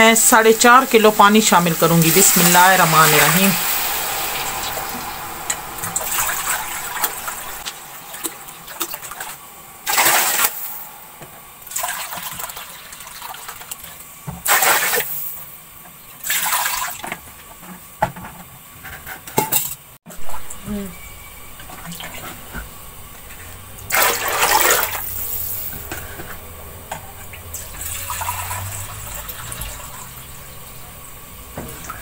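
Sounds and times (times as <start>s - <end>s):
water sizzling in hot pot: 0.2s - 18.8s, 21.4s - 32.0s.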